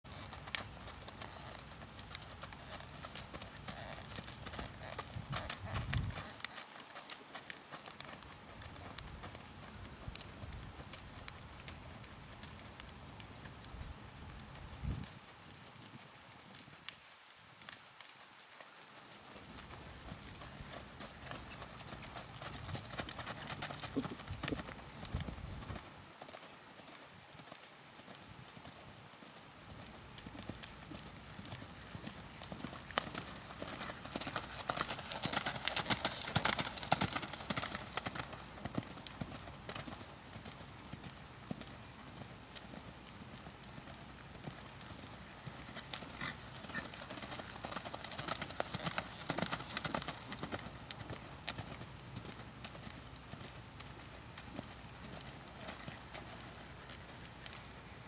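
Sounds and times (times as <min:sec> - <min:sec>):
horse hoofbeats on sand: 0:00.0 - 0:11.7, 0:19.1 - 0:28.8, 0:29.7 - 0:57.7.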